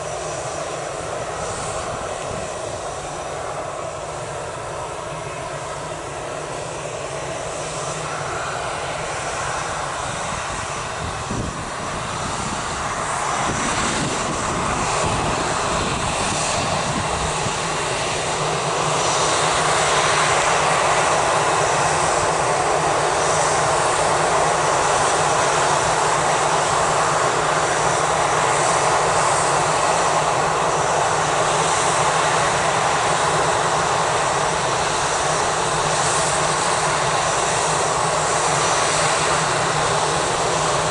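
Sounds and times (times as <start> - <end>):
jet engines spooling up: 0.0 - 40.9.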